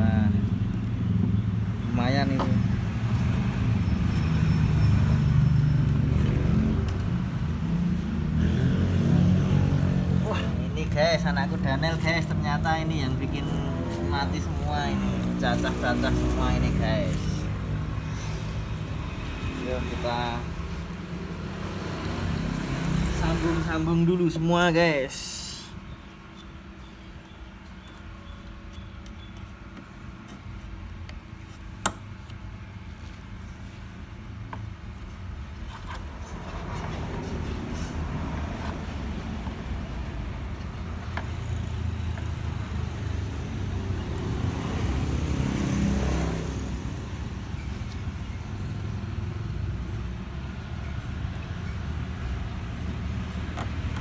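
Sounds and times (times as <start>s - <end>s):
low rumble of traffic: 0.0s - 54.0s.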